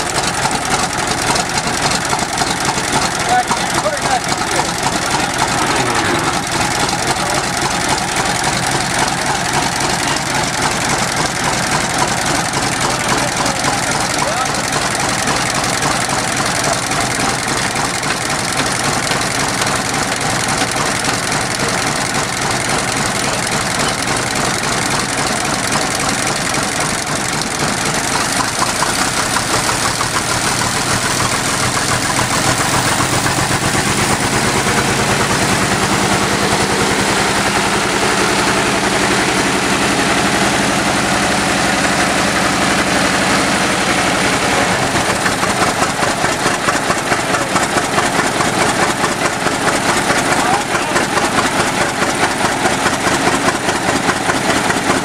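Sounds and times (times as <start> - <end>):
fire engine pump engine running: 0.0 - 55.0.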